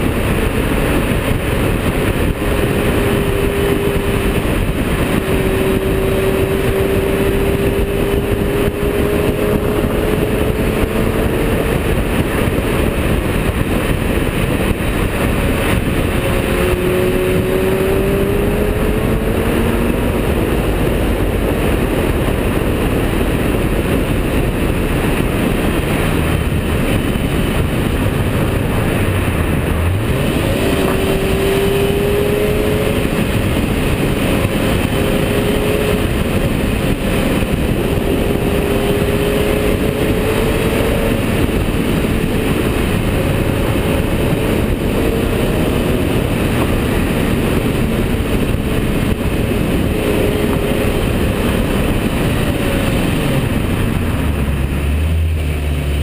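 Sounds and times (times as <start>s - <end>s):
car engine running: 0.0s - 56.0s
heavy wind noise: 0.0s - 56.0s.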